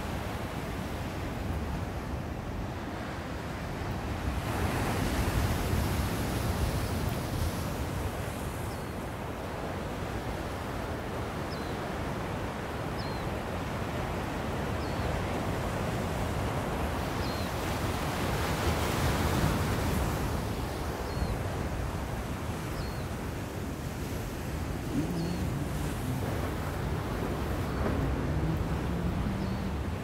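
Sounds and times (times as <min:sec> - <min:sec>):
ocean surf washing on shore: 0:00.0 - 0:30.0.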